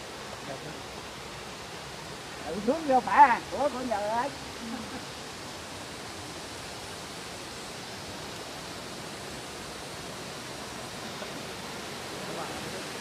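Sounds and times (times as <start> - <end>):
waterfall pouring into pool: 0.0 - 13.0.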